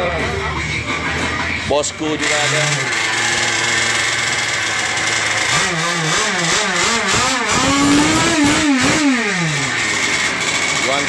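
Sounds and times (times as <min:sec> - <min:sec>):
small engine revving: 0:00.6 - 0:11.0.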